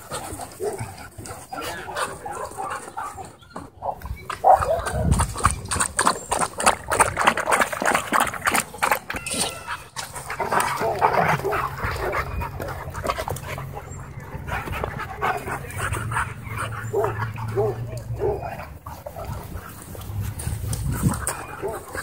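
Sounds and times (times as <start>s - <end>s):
dogs lapping water: 0.0s - 22.0s
dogs vocalizing while playing: 0.0s - 22.0s.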